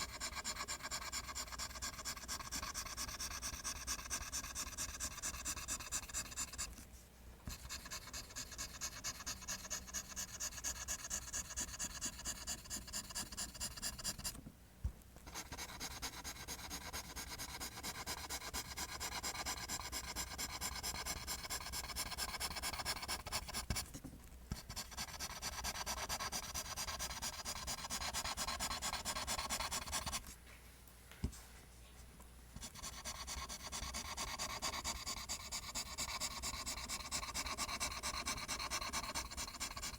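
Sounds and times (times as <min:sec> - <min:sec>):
pencil scratching on paper: 0:00.0 - 0:06.8, 0:07.5 - 0:14.4, 0:15.3 - 0:30.3, 0:32.6 - 0:39.9.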